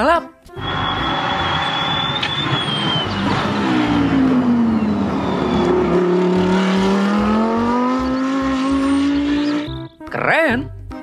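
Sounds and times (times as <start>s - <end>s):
race car engine: 0.6s - 9.8s.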